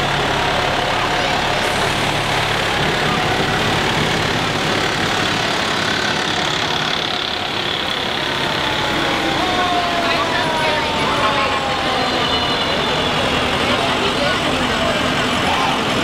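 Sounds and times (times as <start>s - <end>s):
fire truck diesel engine running: 0.0s - 16.0s.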